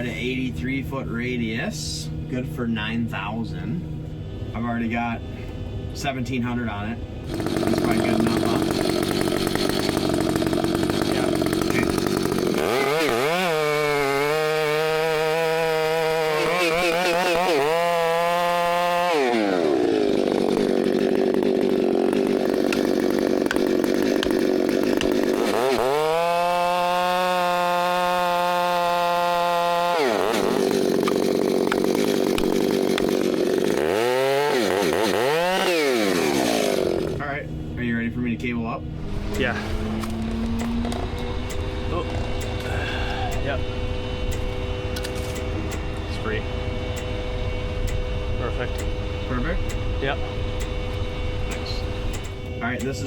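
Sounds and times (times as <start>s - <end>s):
chainsaw cutting tree trunk: 7.2s - 37.3s, 39.0s - 53.0s.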